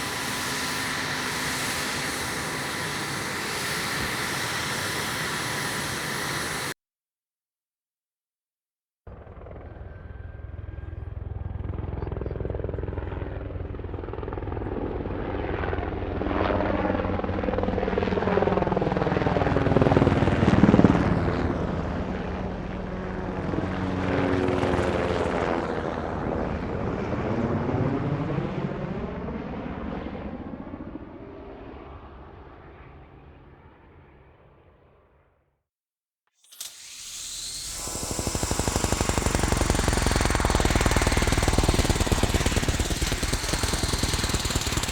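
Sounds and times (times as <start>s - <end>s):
helicopter flying past: 0.0s - 6.8s, 9.1s - 35.1s, 36.5s - 44.9s.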